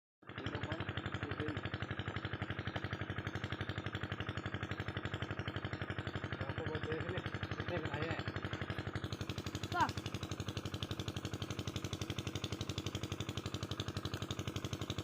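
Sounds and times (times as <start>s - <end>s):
diesel engine chugging: 0.3s - 15.0s.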